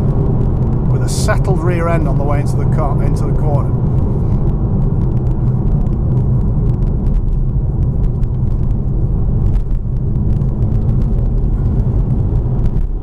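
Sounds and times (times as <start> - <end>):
car engine running while driving: 0.0 - 13.0
tyre and road noise: 0.0 - 13.0.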